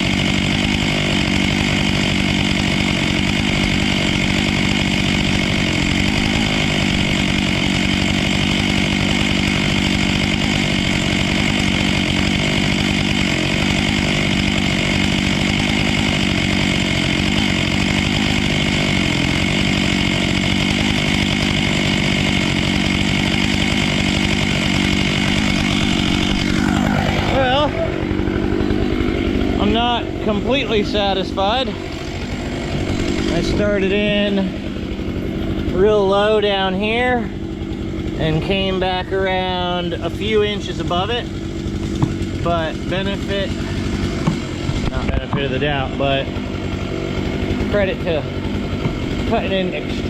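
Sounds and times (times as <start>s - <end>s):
chainsaw cutting at full throttle: 0.0s - 50.0s.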